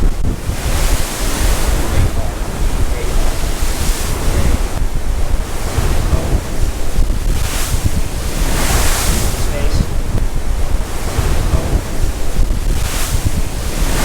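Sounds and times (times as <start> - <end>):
pounding surf: 0.0 - 14.0
storm wind buffeting microphone: 0.0 - 14.0.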